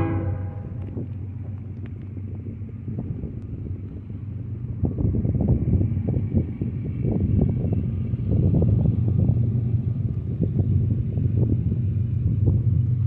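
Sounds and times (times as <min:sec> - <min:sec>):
distant diesel locomotives rumbling: 0:00.0 - 0:13.0.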